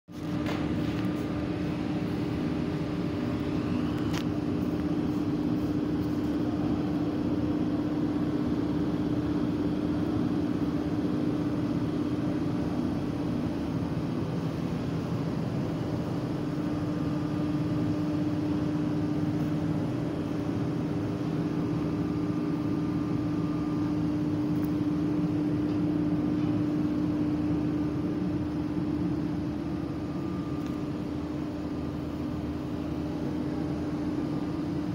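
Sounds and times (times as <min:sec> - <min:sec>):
steady mechanical hum: 0:00.1 - 0:34.9.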